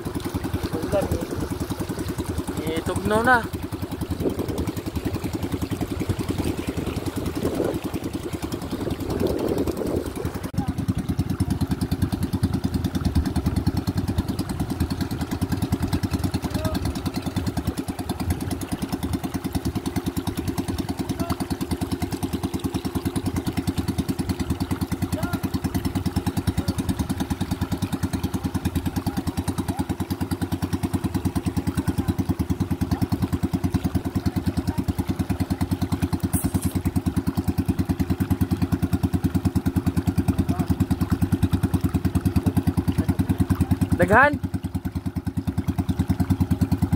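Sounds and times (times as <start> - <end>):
boat engine chugging: 0.0 - 46.9.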